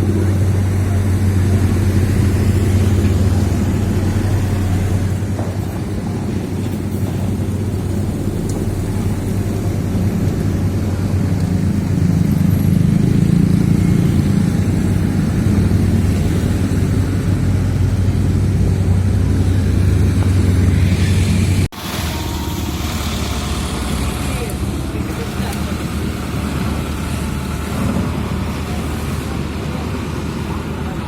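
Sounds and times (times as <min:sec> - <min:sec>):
different engine sound: 0:00.0 - 0:31.0
heavy diesel engine humming: 0:00.0 - 0:31.0.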